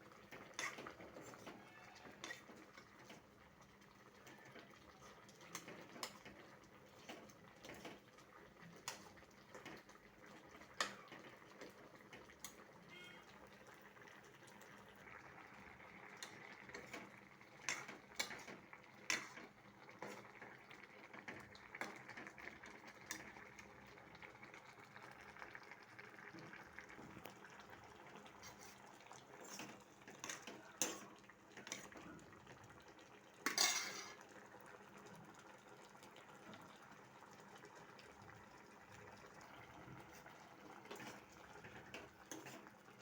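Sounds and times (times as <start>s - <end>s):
pot boiling with hiss and pops: 0.0s - 43.0s.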